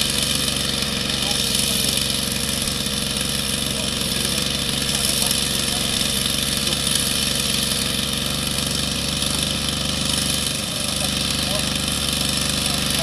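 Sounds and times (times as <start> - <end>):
model helicopter engine idling: 0.0 - 13.0.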